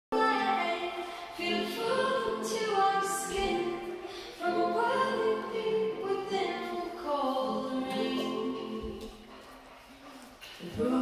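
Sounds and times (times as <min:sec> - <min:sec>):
choir singing long held notes: 0:00.2 - 0:09.2.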